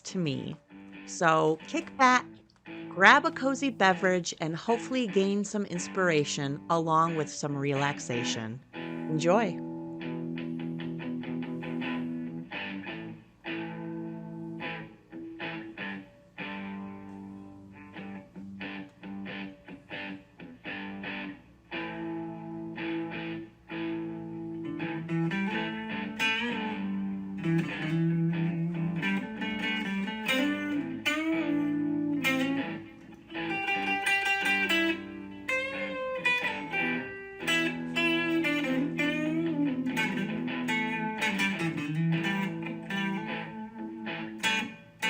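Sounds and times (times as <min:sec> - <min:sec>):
plucked guitar melody: 0:00.0 - 0:45.0.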